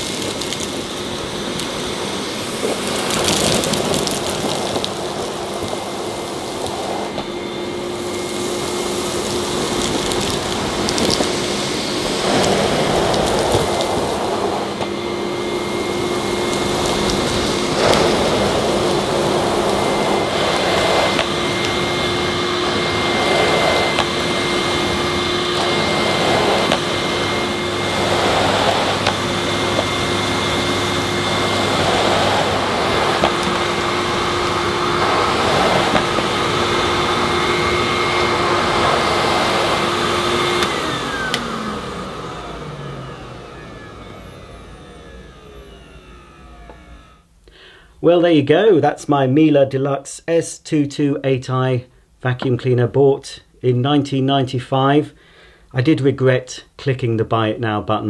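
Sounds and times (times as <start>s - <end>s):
vacuum head pushed over carpet: 0.0s - 47.2s
vacuum cleaner motor whine: 0.0s - 47.4s.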